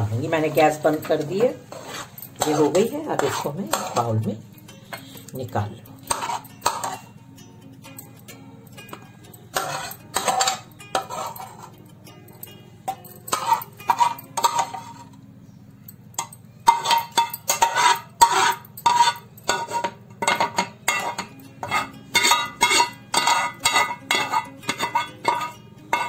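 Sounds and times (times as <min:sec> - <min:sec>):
spoon scraping metal pan: 0:00.3 - 0:05.3, 0:06.0 - 0:07.1, 0:08.9 - 0:11.8, 0:12.9 - 0:15.2, 0:16.2 - 0:26.0.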